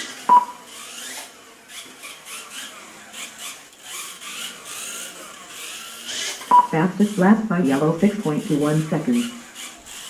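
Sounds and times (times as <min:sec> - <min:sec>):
electric motors whining: 0:00.0 - 0:10.0
wheels scrubbing and rasping: 0:00.0 - 0:10.0.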